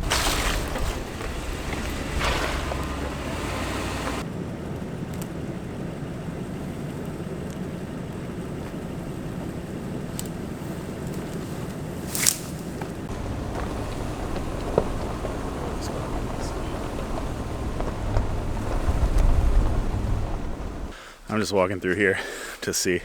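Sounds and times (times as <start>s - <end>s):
car engine rumbling: 0.0s - 21.0s
tyres on rough road: 0.0s - 21.0s.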